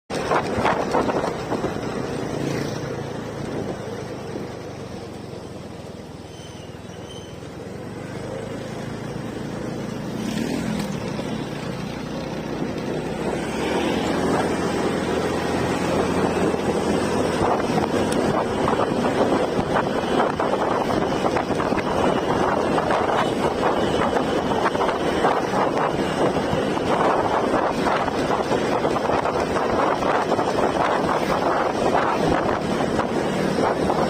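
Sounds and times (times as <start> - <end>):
wind buffeting microphone: 0.1 - 3.9, 10.1 - 34.0
motorcycle engine running: 0.1 - 34.0.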